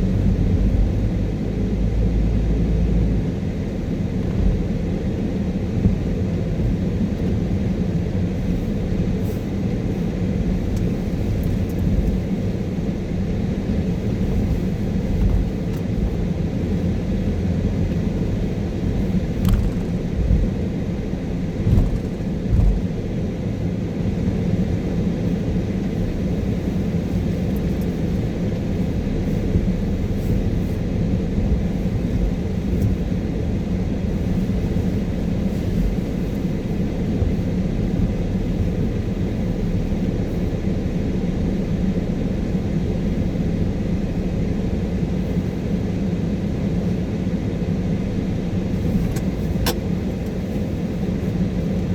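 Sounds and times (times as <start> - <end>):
car interior road rumble: 0.0 - 51.9.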